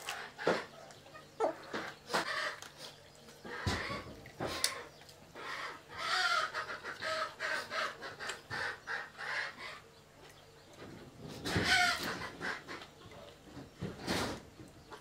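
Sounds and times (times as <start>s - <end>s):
chicken clucking: 0.1s - 13.9s.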